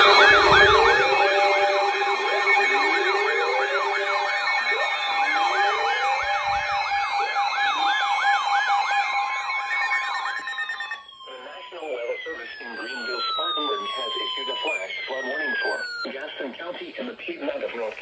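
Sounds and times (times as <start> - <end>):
siren wailing: 0.0 - 16.1
siren yelping: 0.0 - 16.1
steady alarm tones: 0.0 - 16.1.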